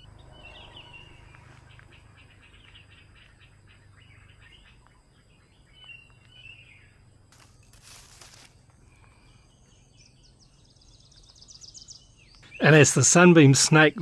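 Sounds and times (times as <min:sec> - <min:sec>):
steady low hum: 0:00.0 - 0:12.8
faint birds chirping: 0:00.0 - 0:14.0.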